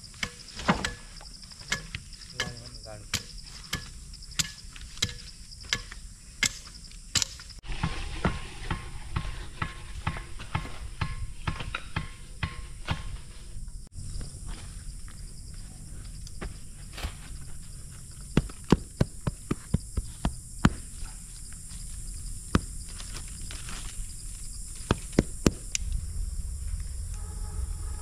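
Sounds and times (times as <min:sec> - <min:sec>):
high-pitched insect chorus: 0:00.0 - 0:07.6, 0:08.7 - 0:28.0.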